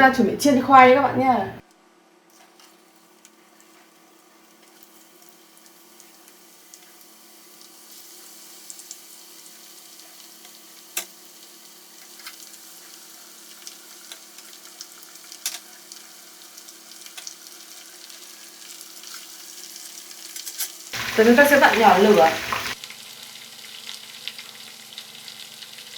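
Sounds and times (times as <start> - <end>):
potatoes sizzling in oil: 2.3 - 25.9.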